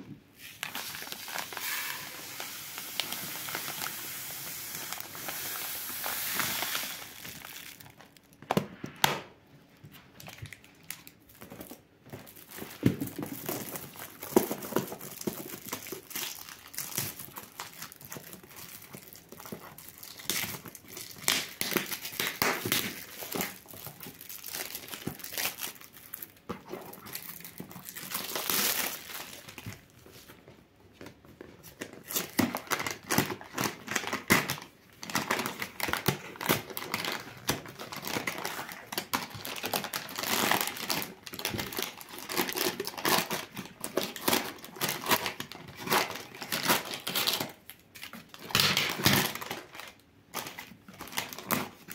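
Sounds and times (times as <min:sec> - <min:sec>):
paper packaging crinkling and tearing: 0:00.3 - 0:08.4, 0:10.2 - 0:30.3, 0:31.4 - 0:51.9.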